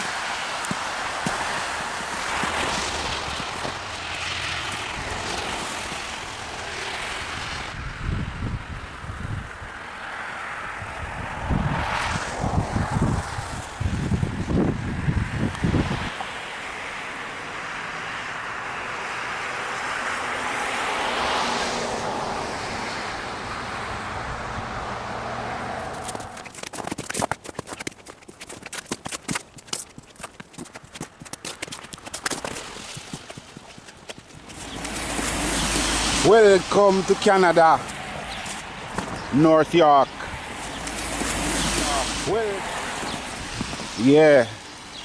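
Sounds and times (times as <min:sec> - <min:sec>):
rushing hiss of wind or traffic: 0:00.0 - 0:26.4, 0:34.3 - 0:45.0
car tyres passing on road: 0:00.0 - 0:45.0.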